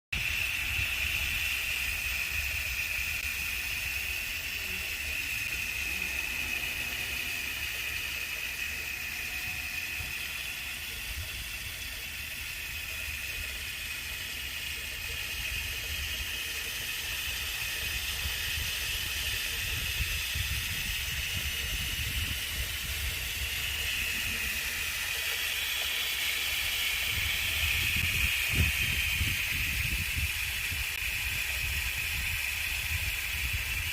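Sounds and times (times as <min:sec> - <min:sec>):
water pouring in waterfall: 0:00.2 - 0:33.9.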